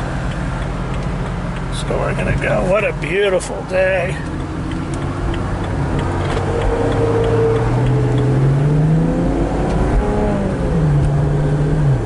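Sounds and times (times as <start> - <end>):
car engine accelerating: 0.0 - 12.0
road noise inside car: 0.0 - 12.0.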